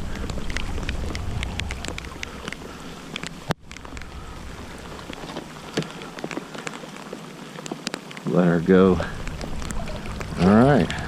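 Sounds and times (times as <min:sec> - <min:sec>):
dripping ticks: 0:00.0 - 0:11.0
rain on water: 0:00.0 - 0:11.0.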